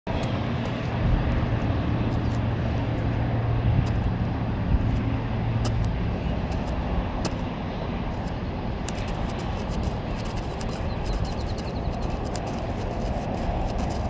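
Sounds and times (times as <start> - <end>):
road traffic passing: 0.1 - 14.0.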